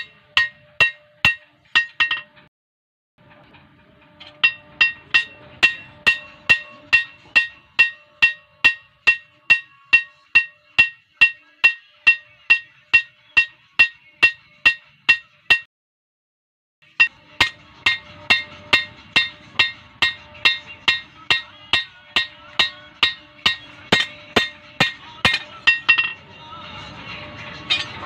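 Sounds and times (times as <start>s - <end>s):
hammer striking metal on anvil: 0.0s - 2.5s, 4.2s - 15.7s, 16.9s - 26.3s, 27.6s - 28.0s.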